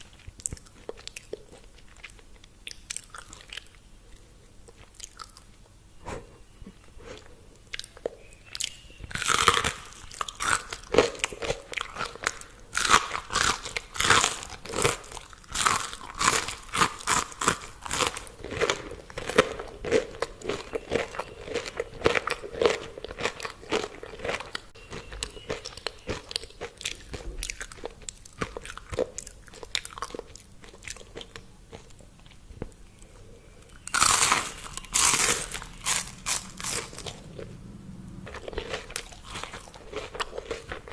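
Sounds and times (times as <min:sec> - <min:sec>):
crunching of crisp fried food: 0:00.0 - 0:05.7, 0:06.4 - 0:40.9.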